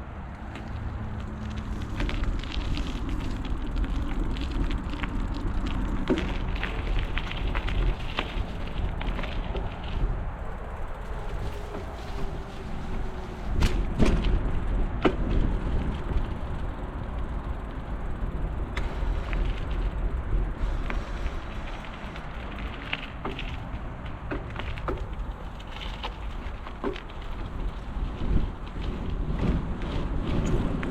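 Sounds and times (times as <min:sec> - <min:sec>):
bicycle tyres rumbling on rough path: 0:00.0 - 0:30.9
wind: 0:00.0 - 0:30.9.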